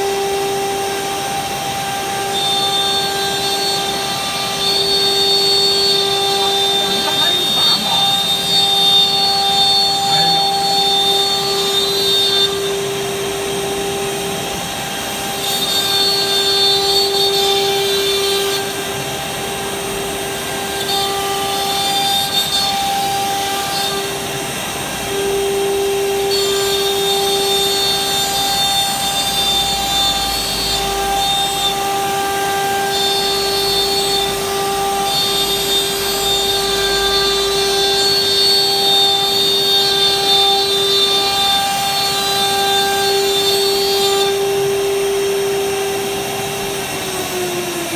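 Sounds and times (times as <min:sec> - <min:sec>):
router spindle whine: 0:00.0 - 0:47.9.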